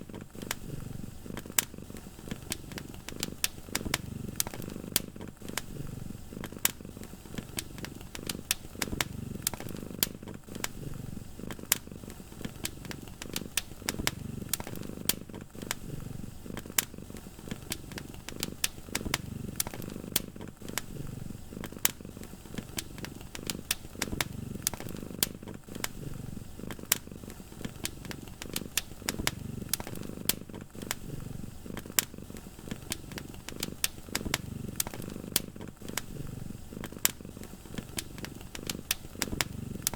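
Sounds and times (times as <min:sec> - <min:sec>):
cat purring: 0:00.0 - 0:39.9
wood fire crackling and popping: 0:00.0 - 0:39.9.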